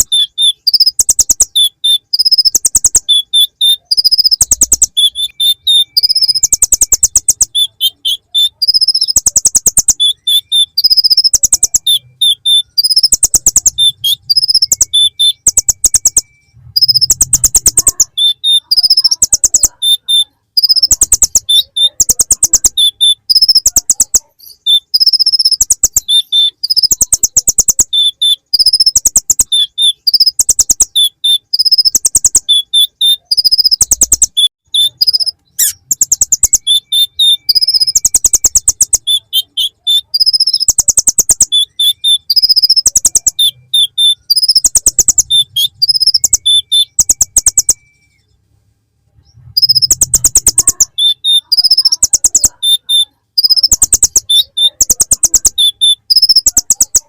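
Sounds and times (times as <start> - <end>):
bird song with buzzy trills: 0.0 - 48.5, 49.1 - 57.0
high bird chirps: 0.0 - 48.5, 49.1 - 57.0.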